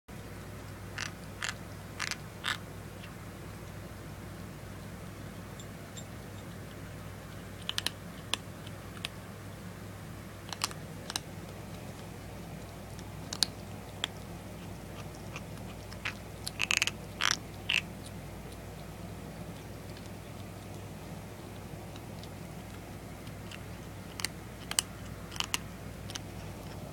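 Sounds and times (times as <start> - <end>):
kitten chewing food: 0.5 - 26.9.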